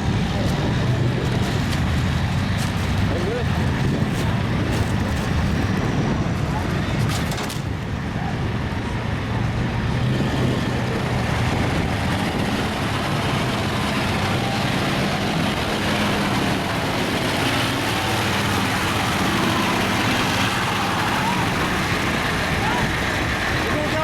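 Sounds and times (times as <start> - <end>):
constant noisy rush: 0.0 - 24.0
truck engines running: 0.0 - 24.0.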